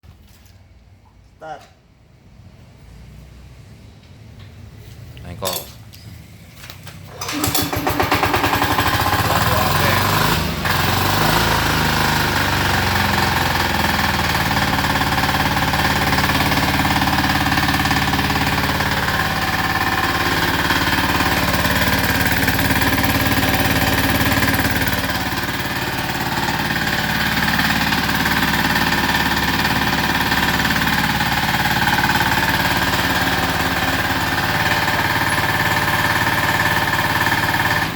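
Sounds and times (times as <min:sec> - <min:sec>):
diesel engine clattering: 0:07.2 - 0:37.9.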